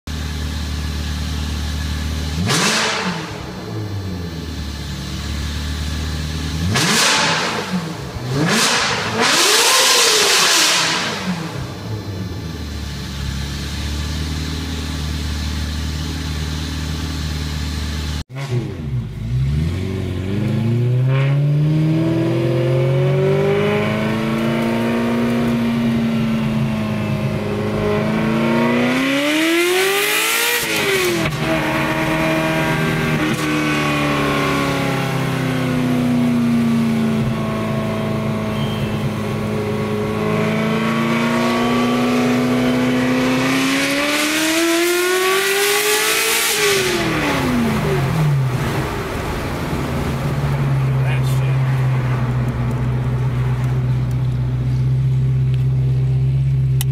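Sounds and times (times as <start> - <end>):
sports car engine revving: 0.2 - 56.9.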